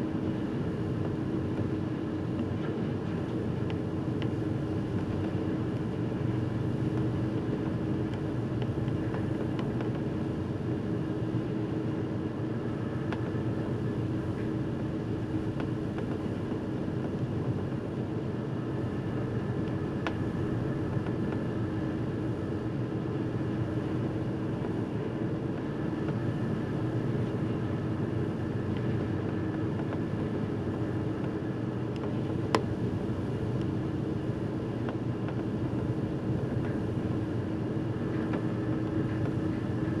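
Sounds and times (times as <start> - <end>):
constant rushing noise: 0.0 - 40.0.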